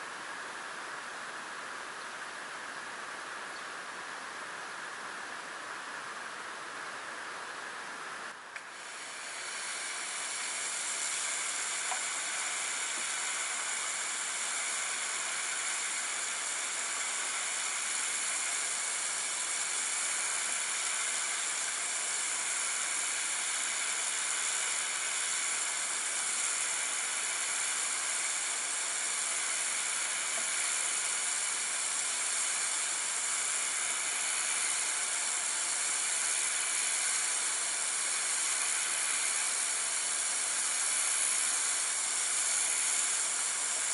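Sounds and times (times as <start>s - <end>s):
pressure washer spraying a wall: 8.6s - 43.9s.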